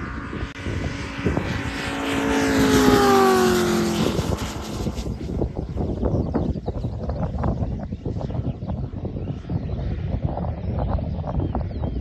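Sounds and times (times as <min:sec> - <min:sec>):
propeller plane flyby: 0:00.0 - 0:12.0.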